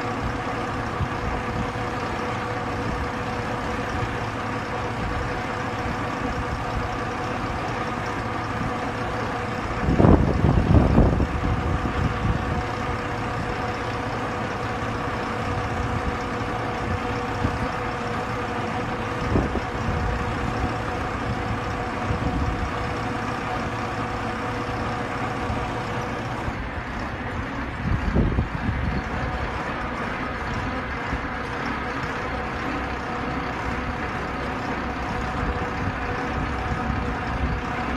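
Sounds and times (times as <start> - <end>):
drilling rig hydraulic hum: 0.0 - 37.9
rumbling bursts: 0.0 - 37.9.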